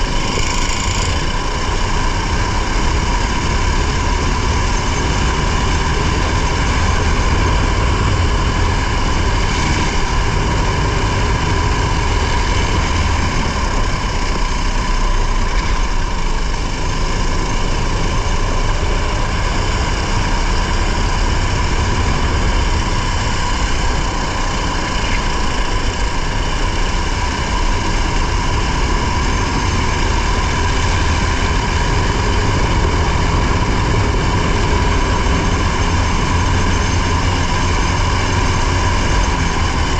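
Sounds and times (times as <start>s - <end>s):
heavy wind noise: 0.0s - 39.9s
racing car engine at high revs: 0.0s - 39.9s
road rumble: 0.0s - 39.9s.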